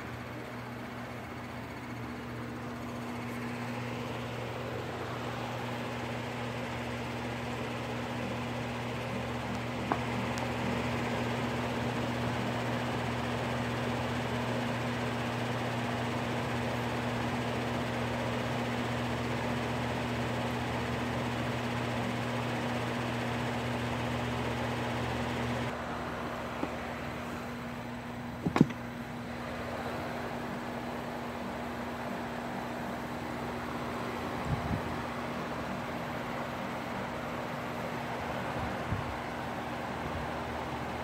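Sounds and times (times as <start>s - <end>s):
machine hum and hiss: 0.0s - 41.0s.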